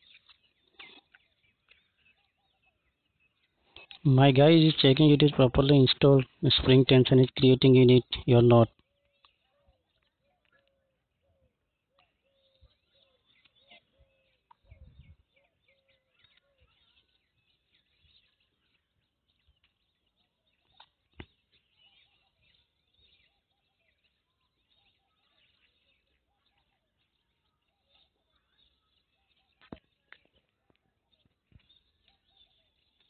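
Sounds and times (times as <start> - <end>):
faint bird chirps: 0.0 - 33.0.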